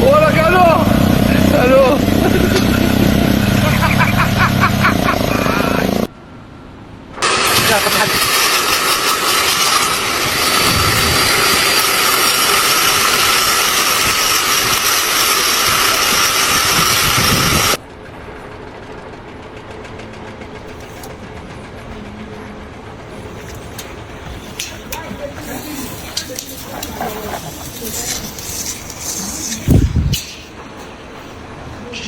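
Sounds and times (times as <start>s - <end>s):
engine running with hiss: 0.0s - 32.0s.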